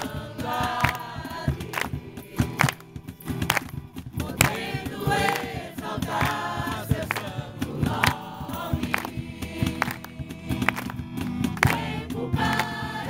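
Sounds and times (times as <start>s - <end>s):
group singing worship song: 0.0s - 13.0s
rhythmic instrumental accompaniment: 0.0s - 13.0s.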